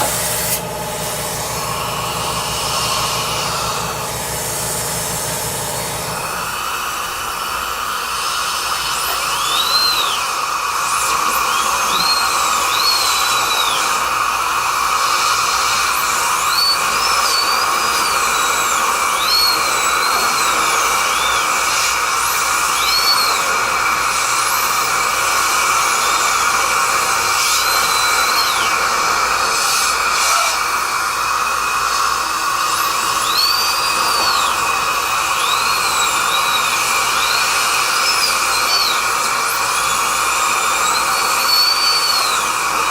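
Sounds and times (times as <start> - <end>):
dental drill whining: 0.0 - 42.9
dental suction hiss: 0.0 - 42.9.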